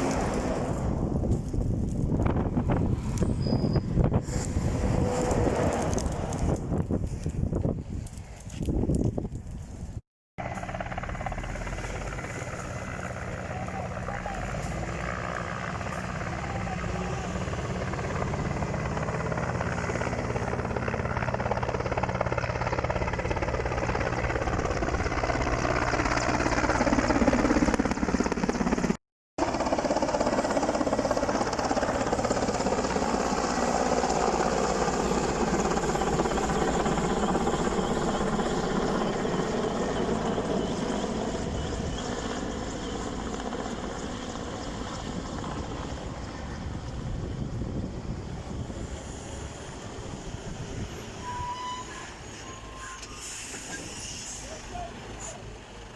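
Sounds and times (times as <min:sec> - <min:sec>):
helicopter rotor and engine: 0:00.0 - 0:55.9.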